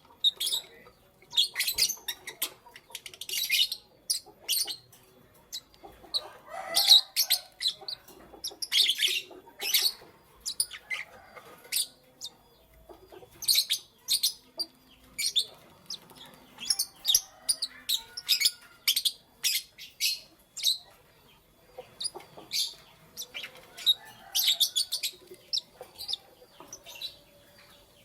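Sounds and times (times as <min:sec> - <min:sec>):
lovebirds chirping: 0:00.0 - 0:28.0.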